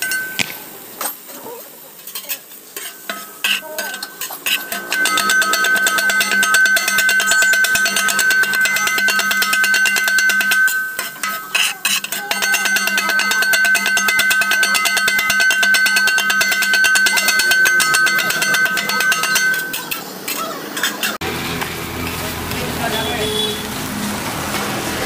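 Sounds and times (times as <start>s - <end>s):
metal blades clanging on griddle: 0.0s - 1.3s, 1.9s - 21.3s.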